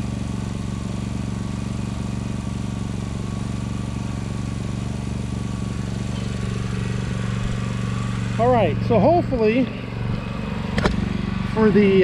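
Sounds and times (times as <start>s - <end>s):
generator running: 0.0s - 12.0s.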